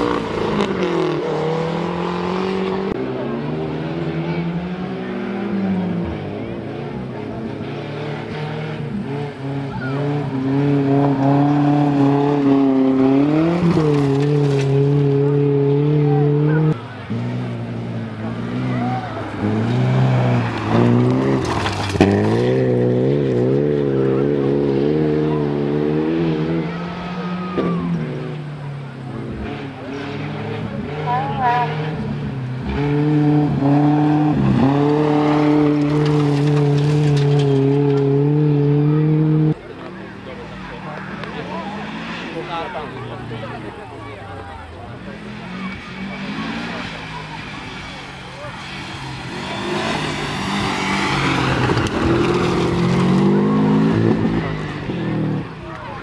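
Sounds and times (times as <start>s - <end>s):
rally car engine at high revs: 0.0s - 56.0s.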